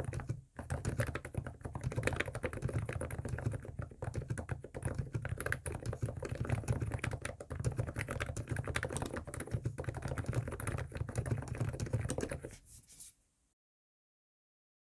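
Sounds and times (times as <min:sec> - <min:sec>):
fast keyboard typing: 0:00.0 - 0:12.6.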